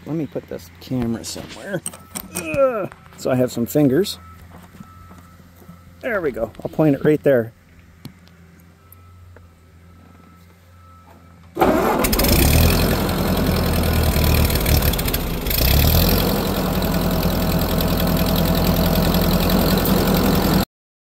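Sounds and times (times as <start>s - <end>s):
tractor engine starting and running: 0.0s - 20.7s.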